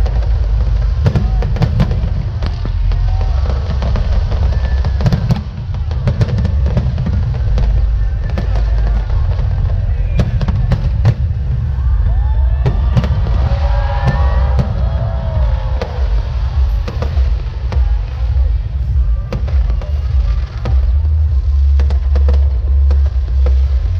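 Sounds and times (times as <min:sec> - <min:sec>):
fireworks bangs and crackles: 0:00.0 - 0:23.9
low rumble: 0:00.0 - 0:23.9
music playing: 0:00.0 - 0:23.9.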